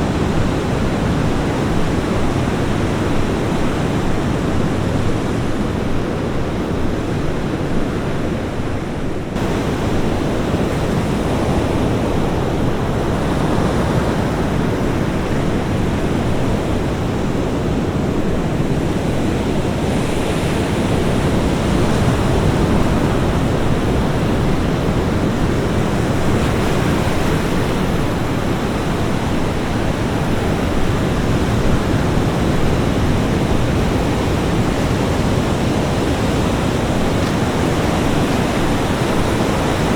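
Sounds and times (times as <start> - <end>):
ocean surf on a beach: 0.0 - 39.9.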